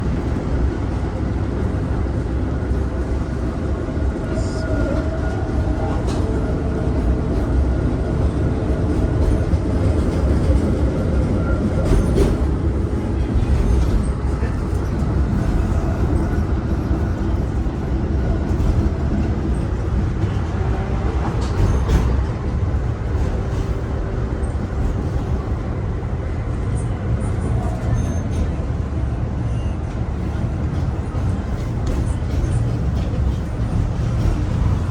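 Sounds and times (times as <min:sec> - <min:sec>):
tram running on rails: 0:00.0 - 0:34.9.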